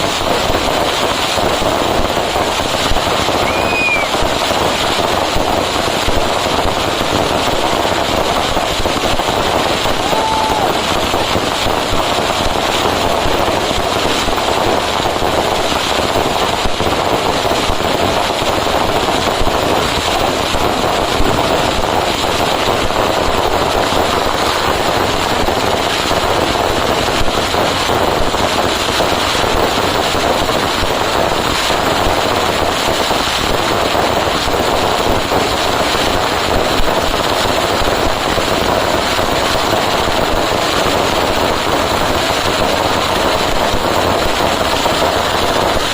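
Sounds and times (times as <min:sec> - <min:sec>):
firecrackers barrage: 0:00.0 - 0:45.9.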